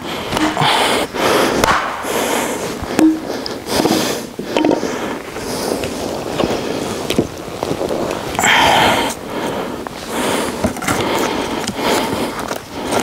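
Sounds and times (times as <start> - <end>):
branches rustling: 0.0 - 13.0.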